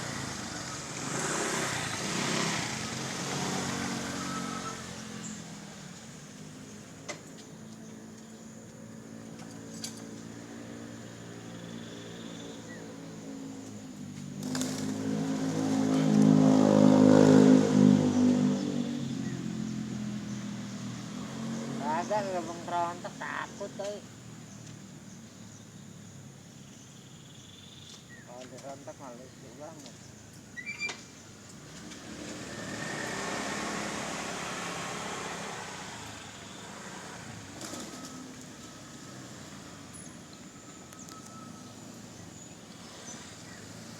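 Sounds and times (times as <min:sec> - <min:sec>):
vehicle engine passing by: 0:00.0 - 0:07.0, 0:09.0 - 0:25.0, 0:31.4 - 0:43.9.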